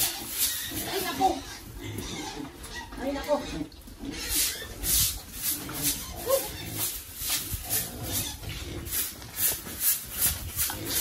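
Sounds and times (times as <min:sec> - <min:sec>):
pigs crunching and chomping: 0:00.0 - 0:11.0.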